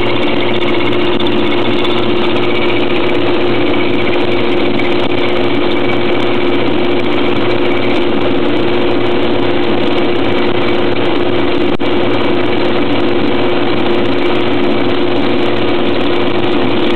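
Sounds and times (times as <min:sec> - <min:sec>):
metal lathe droning: 0:00.0 - 0:16.9.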